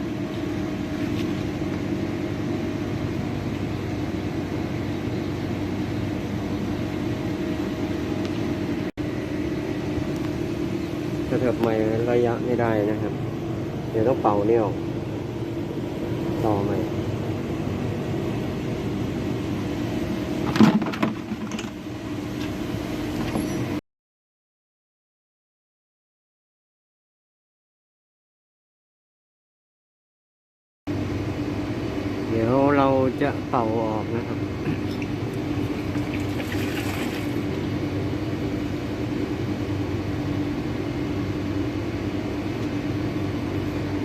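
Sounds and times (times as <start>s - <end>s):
machine humming: 0.0s - 23.8s, 30.9s - 44.0s.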